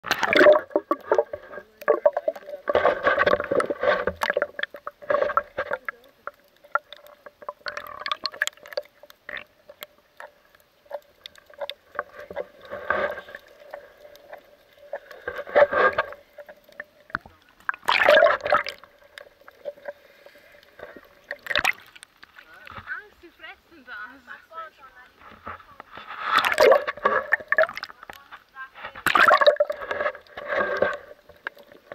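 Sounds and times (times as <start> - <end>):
water gurgling underwater: 0.0 - 22.1, 26.3 - 28.2, 29.0 - 31.9.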